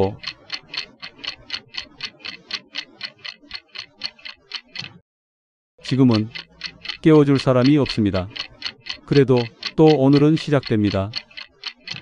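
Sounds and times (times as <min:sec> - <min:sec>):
clock ticking: 0:00.0 - 0:05.0, 0:05.8 - 0:12.0.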